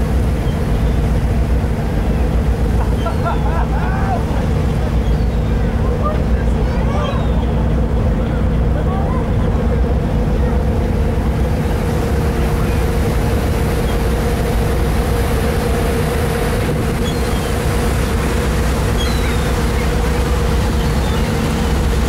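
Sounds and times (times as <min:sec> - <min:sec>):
ship engines droning: 0:00.0 - 0:22.0.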